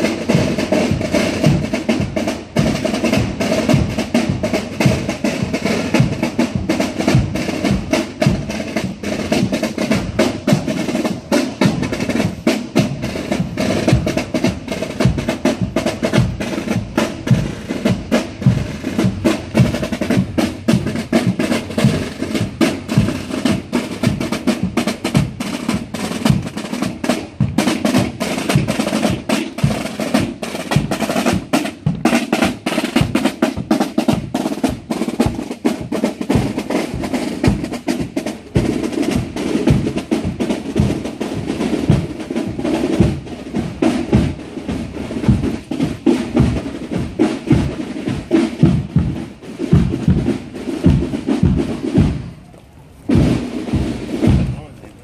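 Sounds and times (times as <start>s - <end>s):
snare drum strokes and rolls: 0.0s - 55.0s
bass drum beat: 0.2s - 52.4s, 53.1s - 54.9s.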